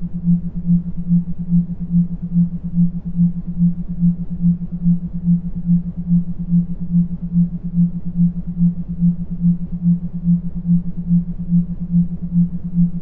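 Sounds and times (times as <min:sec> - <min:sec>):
pulsing low electronic tone: 0:00.0 - 0:13.0
soft hiss and rumble: 0:00.0 - 0:13.0.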